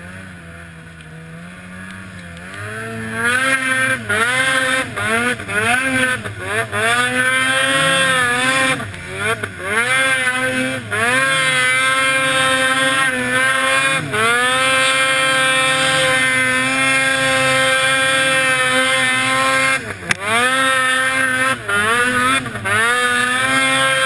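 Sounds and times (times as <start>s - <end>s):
snowmobile engine at high revs: 0.0s - 24.0s.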